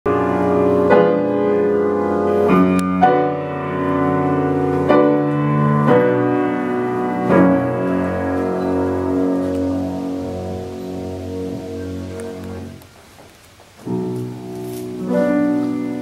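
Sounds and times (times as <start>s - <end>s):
piano playing slow chords: 0.1s - 13.0s, 13.7s - 16.0s.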